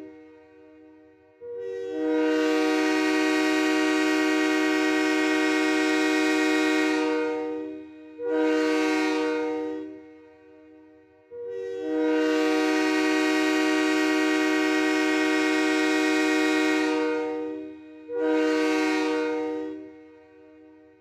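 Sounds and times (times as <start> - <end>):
train horn blasts: 0.0 - 21.0.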